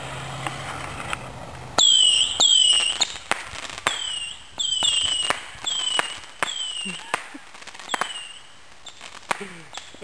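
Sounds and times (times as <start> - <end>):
firework cracks: 0.0 - 10.0
whistling fireworks: 1.8 - 10.0.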